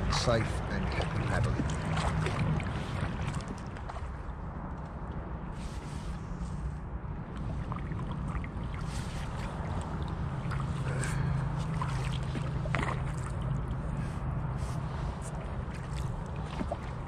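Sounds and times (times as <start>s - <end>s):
steady low hum: 0.0s - 17.0s
water lapping against hull: 0.0s - 17.0s.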